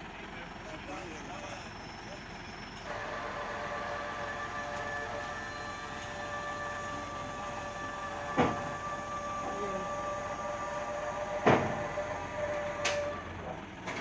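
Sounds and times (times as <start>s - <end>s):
heavy machine engine whining: 0.3s - 14.0s.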